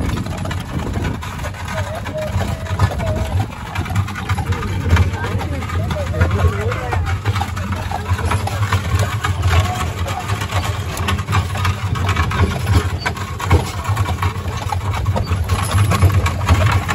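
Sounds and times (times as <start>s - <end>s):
carriage wheels rumbling on gravel: 0.0s - 16.9s
crunching and rattling clicks: 0.0s - 16.9s.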